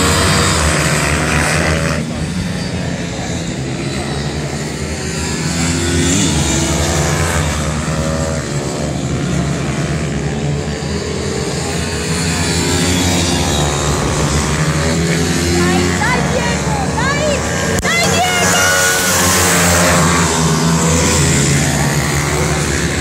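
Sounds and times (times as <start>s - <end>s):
pit bike engines revving: 0.0s - 23.0s.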